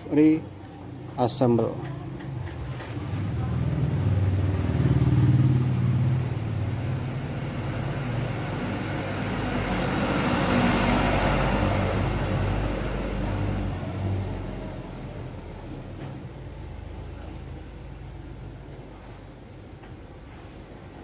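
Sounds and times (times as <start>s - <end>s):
vehicle engine rumbling: 1.4s - 19.8s.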